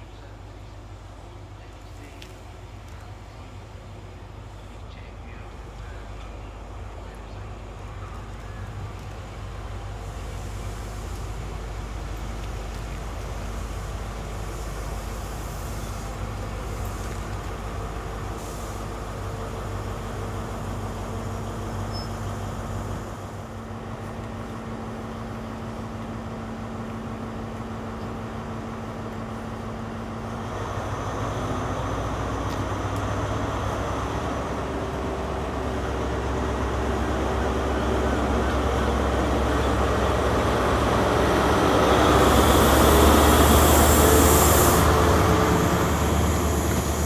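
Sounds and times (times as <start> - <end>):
diesel train humming: 0.0 - 47.0
train rumble: 0.0 - 47.0.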